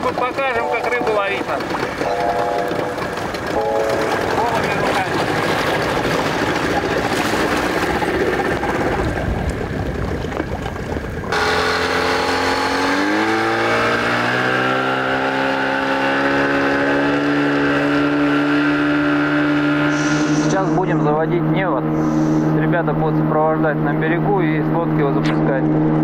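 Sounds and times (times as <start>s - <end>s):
outboard motor running: 0.0s - 26.0s
water splashing and rushing: 0.0s - 26.0s.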